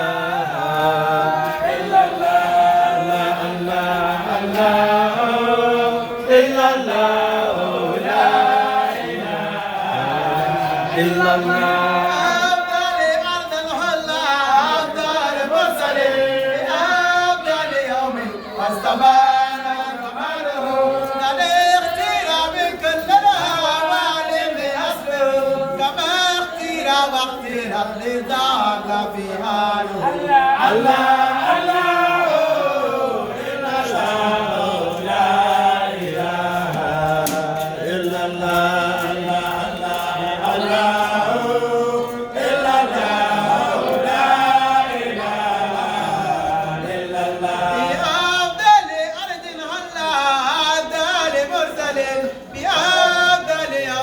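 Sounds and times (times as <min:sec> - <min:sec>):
group of voices chanting: 0:00.0 - 0:48.6.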